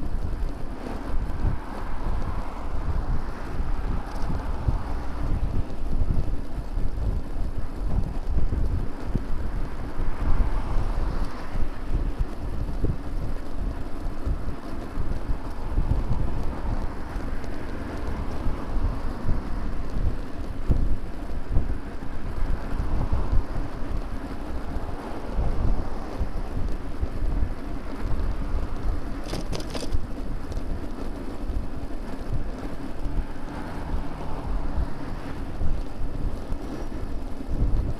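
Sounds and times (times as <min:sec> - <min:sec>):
road traffic passing: 0:00.0 - 0:37.9
wind rumbling on microphone: 0:00.0 - 0:37.9.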